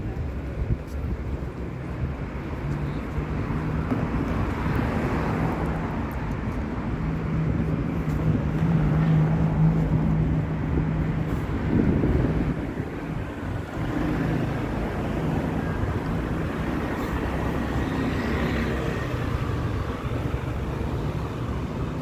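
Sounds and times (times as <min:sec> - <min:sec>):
rushing tyre noise: 0:00.0 - 0:22.0.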